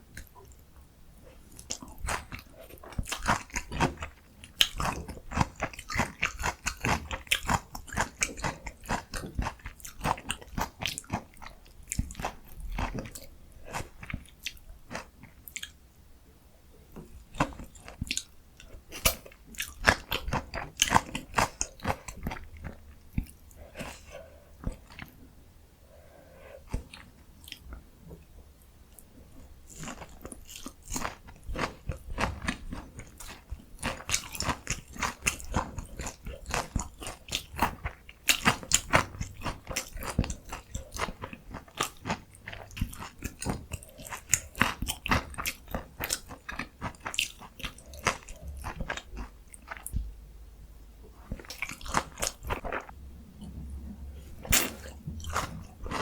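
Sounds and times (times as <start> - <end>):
crunchy chewing: 1.3 - 15.8, 16.9 - 25.2, 28.9 - 50.0, 51.2 - 56.0.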